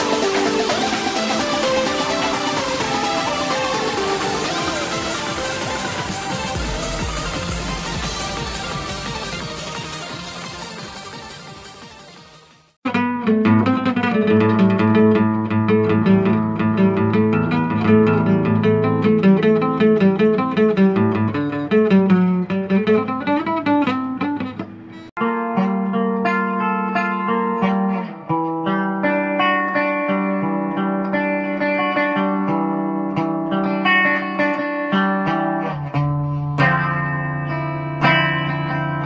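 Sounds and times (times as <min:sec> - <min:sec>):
fingerpicked acoustic guitar: 0:00.0 - 0:11.4, 0:12.8 - 0:39.0
clean electric guitar: 0:00.0 - 0:39.0.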